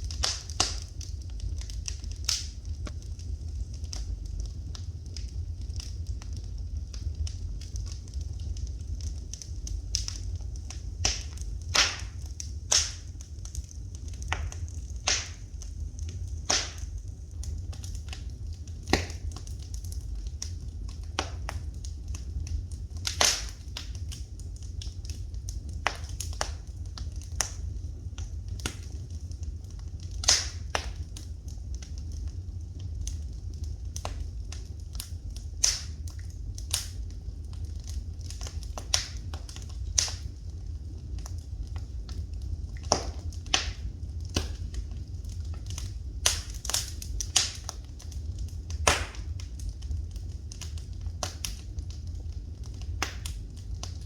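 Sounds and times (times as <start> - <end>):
sharp fire pops: 0.0 - 54.0
steady low rumble: 0.0 - 54.0
wood fire crackling: 0.0 - 54.0.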